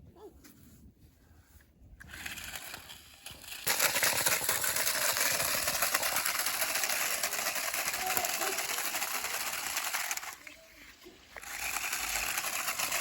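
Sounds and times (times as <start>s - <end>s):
toy car rattling over rough ground: 2.0s - 13.0s.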